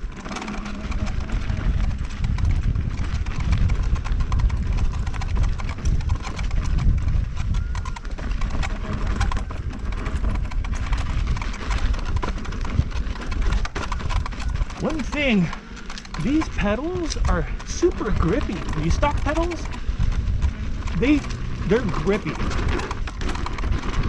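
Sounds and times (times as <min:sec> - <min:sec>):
electric unicycle rumbling: 0:00.0 - 0:24.0
suspension clicks and squeaks: 0:00.0 - 0:24.0.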